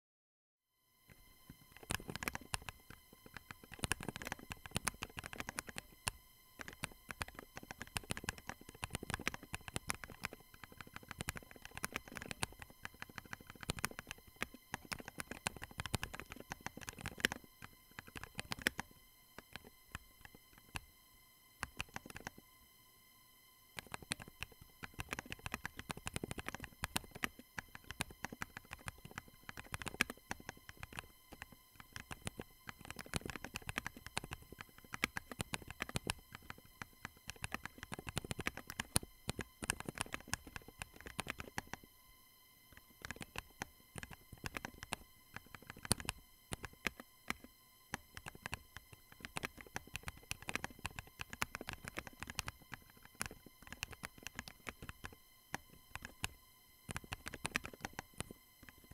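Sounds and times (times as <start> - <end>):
mechanical keyboard typing: 1.6 - 20.8, 21.6 - 22.4, 23.8 - 41.8, 42.8 - 58.9.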